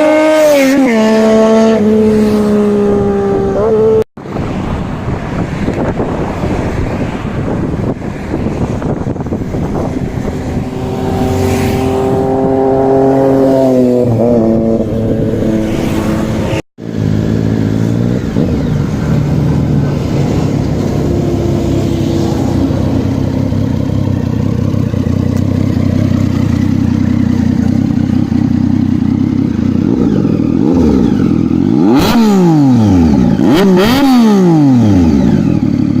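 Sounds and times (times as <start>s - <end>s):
motorcycle engine revving: 0.0s - 4.1s, 5.7s - 36.0s.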